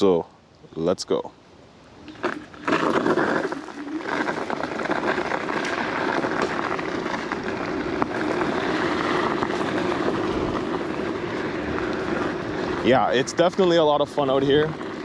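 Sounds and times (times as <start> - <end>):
tyres on gravel: 2.1 - 15.0
electric scooter motor hum: 2.2 - 15.0.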